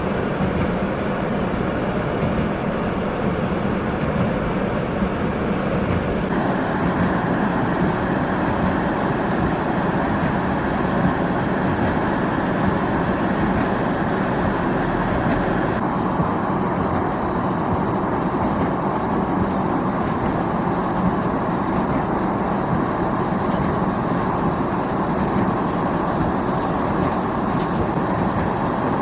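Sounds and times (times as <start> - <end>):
blizzard wind rushing: 0.0 - 29.0.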